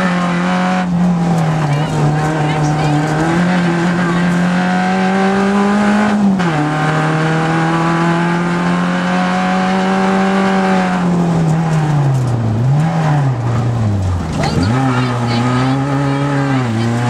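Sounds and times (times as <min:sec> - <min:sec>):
rally car engine from inside cabin: 0:00.0 - 0:17.0.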